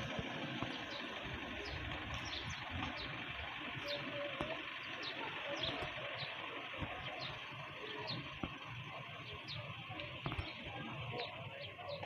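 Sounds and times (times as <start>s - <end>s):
steady background noise: 0.0s - 12.0s
bird chirping: 0.6s - 12.0s.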